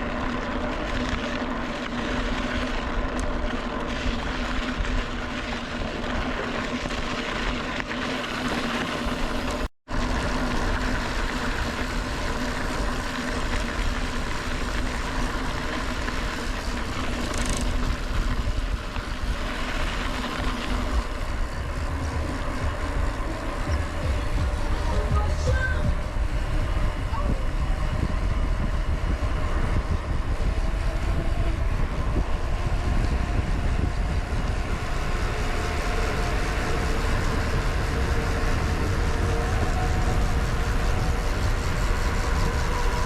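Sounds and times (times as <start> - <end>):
wind buffeting microphone: 3.8 - 43.0
steady hum: 8.0 - 43.0.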